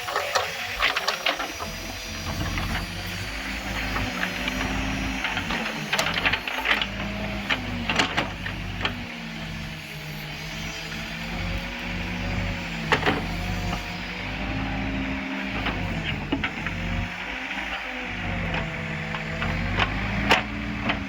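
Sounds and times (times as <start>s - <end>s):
diesel engine under load: 0.0s - 21.0s.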